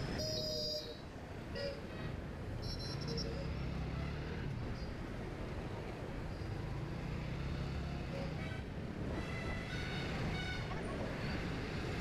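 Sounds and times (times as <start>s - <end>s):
road and traffic rumble: 0.0s - 12.0s.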